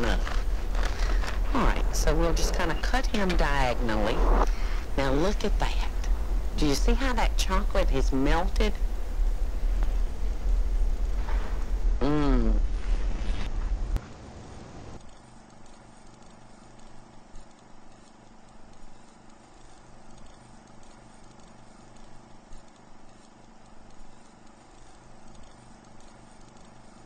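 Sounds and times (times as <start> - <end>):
soft ticks and crackles: 0.0 - 11.9, 15.0 - 27.0
faint low hum: 0.0 - 27.0.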